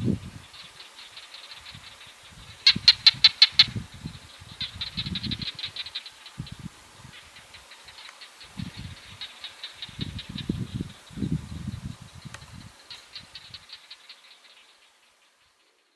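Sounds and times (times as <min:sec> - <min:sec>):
geckos calling in clicks: 0:00.4 - 0:15.9.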